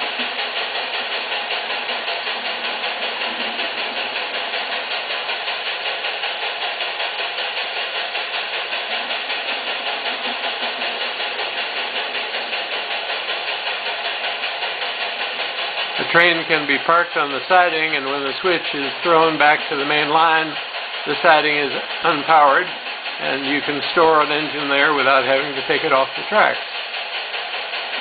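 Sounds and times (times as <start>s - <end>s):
electronic steam locomotive chuffing: 0.0s - 28.0s.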